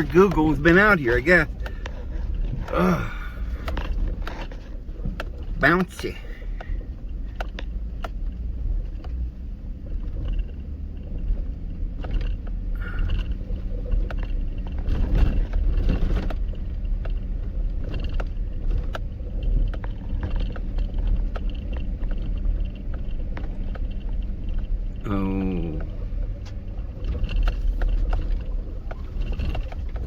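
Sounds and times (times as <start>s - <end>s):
vehicle engine and tyre rumble: 0.0s - 30.0s.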